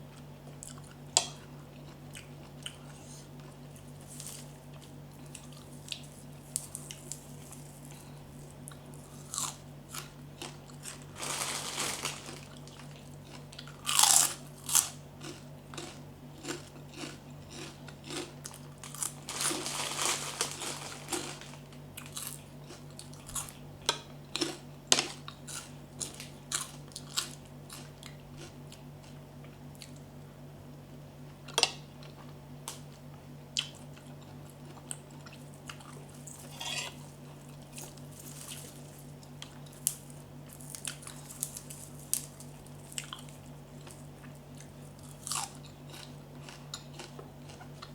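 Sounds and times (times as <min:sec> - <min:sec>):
steady low hum: 0:00.0 - 0:47.9
crunching bites and chewing: 0:00.1 - 0:30.1, 0:31.5 - 0:47.9.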